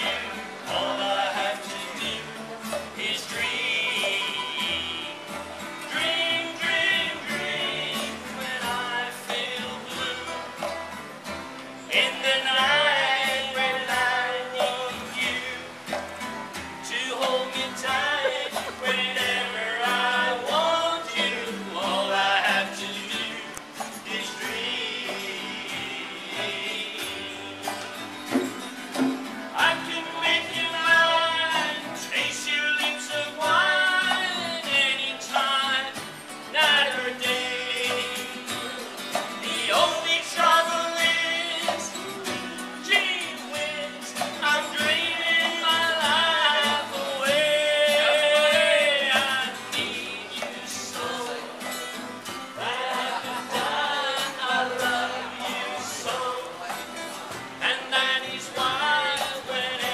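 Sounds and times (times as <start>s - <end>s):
person singing: 0.0s - 10.8s, 11.9s - 16.1s, 16.9s - 28.4s, 29.5s - 59.9s
acoustic guitars: 0.0s - 59.9s
double bass: 0.0s - 59.9s.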